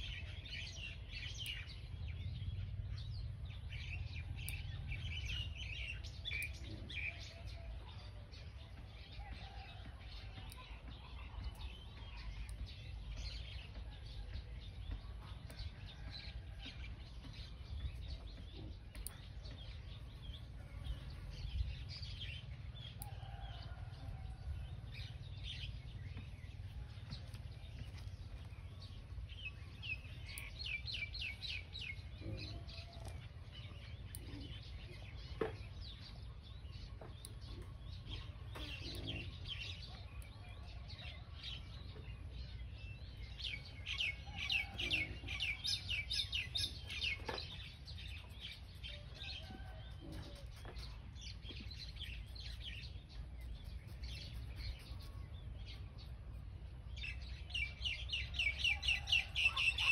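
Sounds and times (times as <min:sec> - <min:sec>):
steady low rumble: 0:00.0 - 0:59.5
birds chirping: 0:00.0 - 0:59.9.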